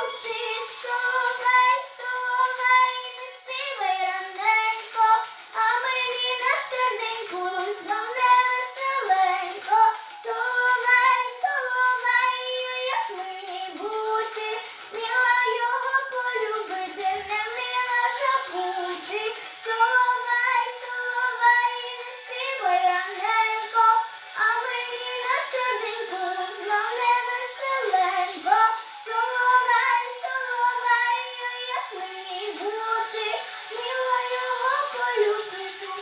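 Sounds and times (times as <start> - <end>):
girl singing a melody: 0.0 - 36.0.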